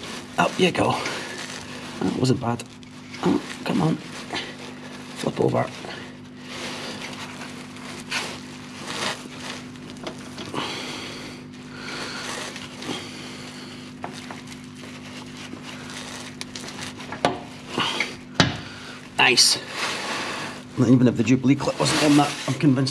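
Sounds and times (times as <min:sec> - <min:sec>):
clothing rustle: 0:00.0 - 0:22.9
rubber hose rubbing and scraping: 0:00.0 - 0:22.9.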